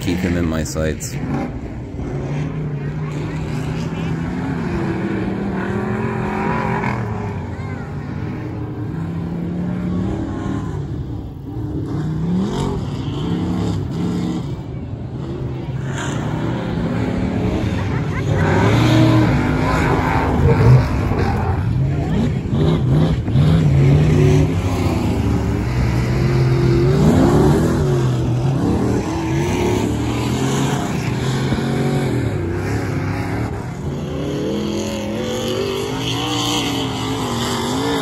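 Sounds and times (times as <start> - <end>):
race car engines revving: 0.0 - 38.0.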